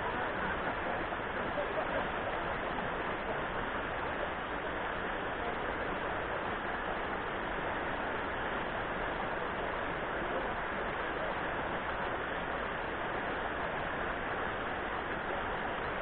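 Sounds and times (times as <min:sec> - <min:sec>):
river rapids over rocks: 0:00.0 - 0:16.0.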